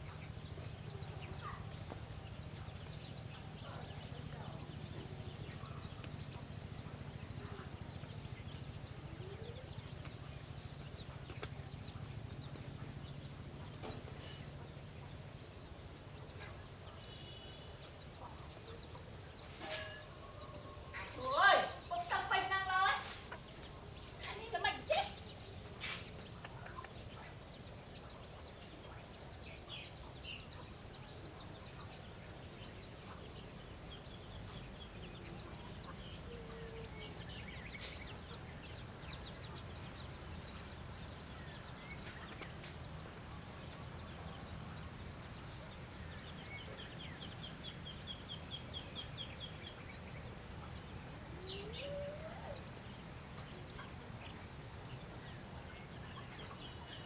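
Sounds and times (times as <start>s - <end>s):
bird chirps: 0.0s - 57.0s
low background noise: 0.0s - 57.0s.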